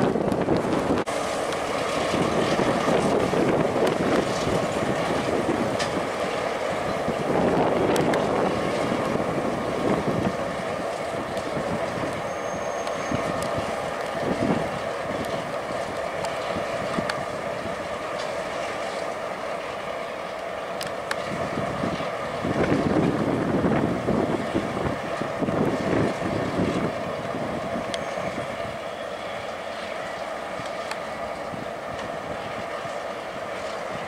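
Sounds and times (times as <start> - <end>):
diesel locomotive engine rumble: 0.0 - 34.0.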